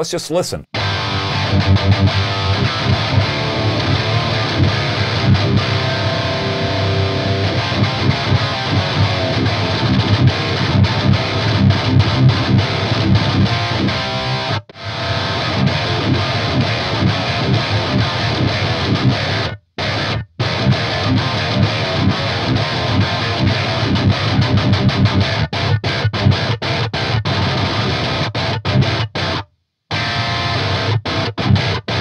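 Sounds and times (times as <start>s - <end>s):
distorted electric guitar riff: 0.7s - 32.0s.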